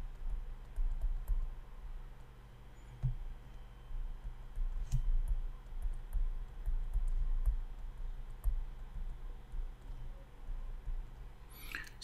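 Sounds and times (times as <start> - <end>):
stylus tapping on tablet screen: 0.0 - 1.6, 3.0 - 11.3.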